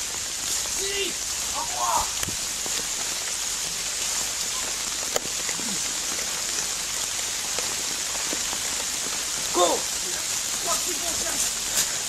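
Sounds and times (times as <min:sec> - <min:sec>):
steady hiss of noise: 0:00.0 - 0:12.0.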